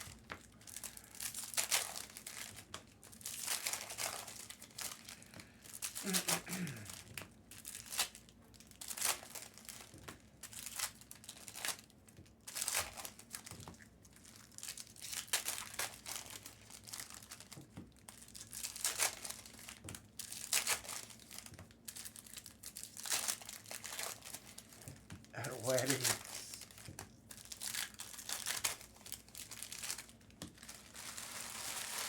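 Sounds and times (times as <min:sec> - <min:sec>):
foil wrappers tearing and crinkling: 0:00.0 - 0:32.0.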